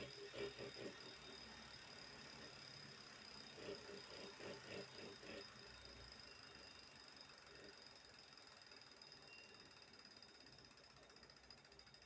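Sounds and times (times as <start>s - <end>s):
bike trainer ratchet-like ticking: 0.0s - 12.0s.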